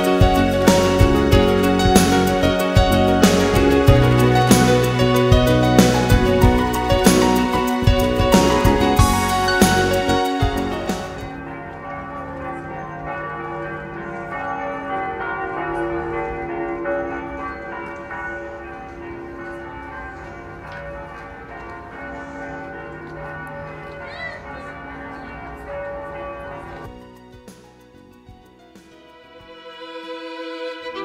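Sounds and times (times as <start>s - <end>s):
church bells ringing: 0.0s - 28.2s.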